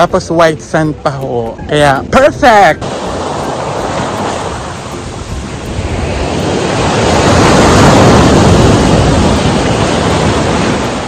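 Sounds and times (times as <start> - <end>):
wind buffeting microphone: 0.0 - 11.0
ocean surf breaking: 1.6 - 11.0.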